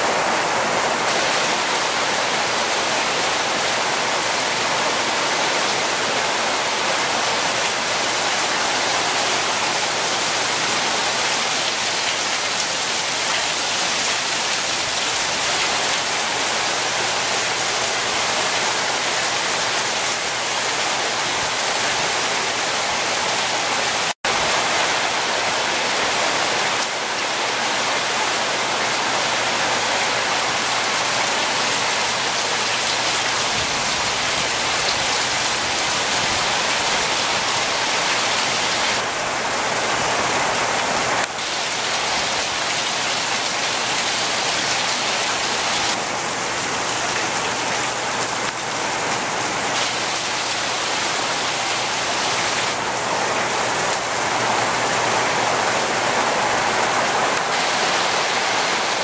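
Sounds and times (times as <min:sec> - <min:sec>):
heavy rain on roofs: 0:00.0 - 0:59.0.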